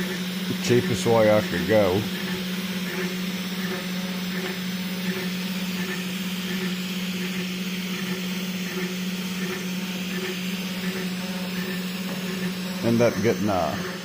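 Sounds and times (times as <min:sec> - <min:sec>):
electric motor hum: 0:00.0 - 0:14.0.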